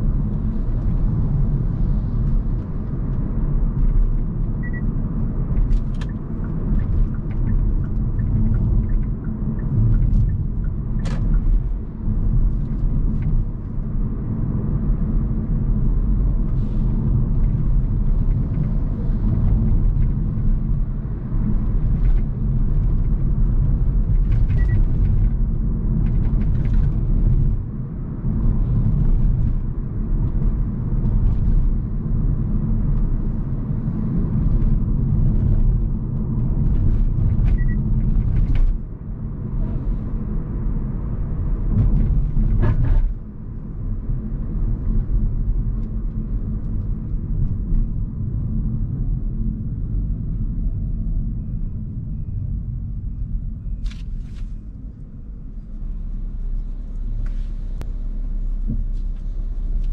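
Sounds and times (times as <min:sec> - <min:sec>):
car road and tyre rumble: 0:00.0 - 0:59.9.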